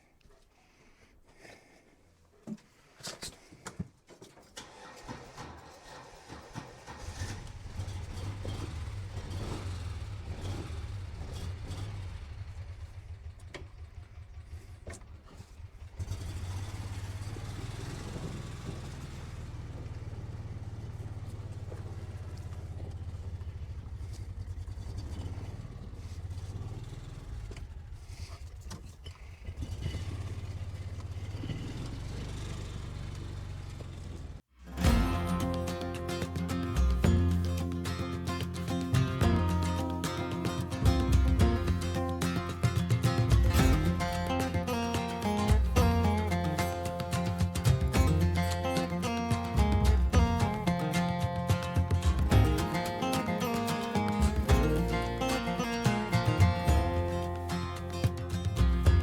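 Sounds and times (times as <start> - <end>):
utility vehicle engine running: 4.6 - 59.0.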